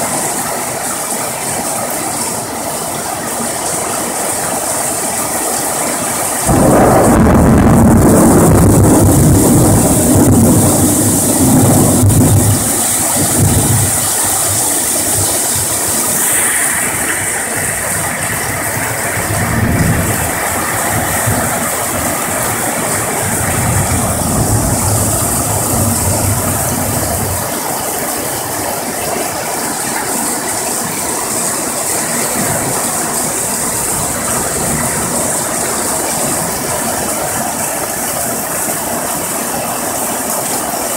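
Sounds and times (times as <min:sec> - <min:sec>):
heavy rain pouring: 0:00.0 - 0:40.9
thunder rumbling: 0:05.8 - 0:38.9.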